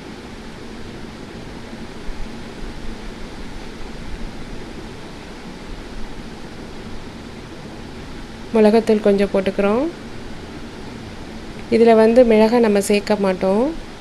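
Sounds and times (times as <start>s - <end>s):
background hiss: 0.0s - 14.0s
faint low hum: 0.0s - 14.0s.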